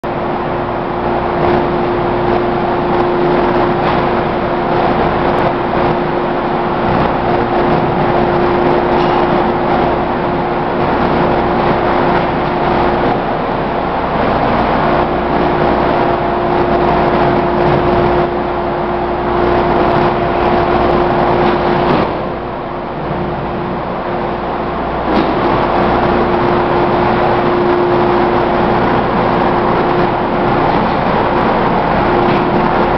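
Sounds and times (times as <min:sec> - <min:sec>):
washing machine motor hum: 0:00.0 - 0:32.9
loud rushing noise: 0:00.1 - 0:32.9.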